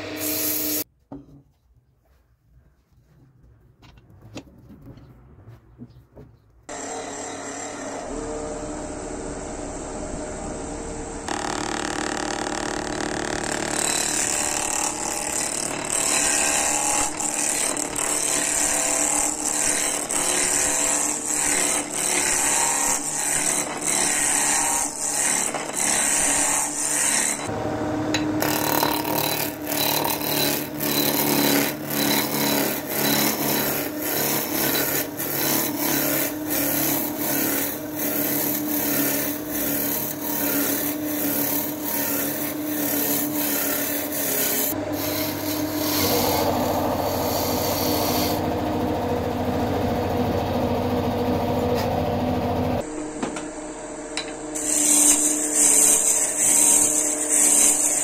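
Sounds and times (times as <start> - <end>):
wood lathe tool cutting: 6.7 - 52.9, 54.6 - 58.0.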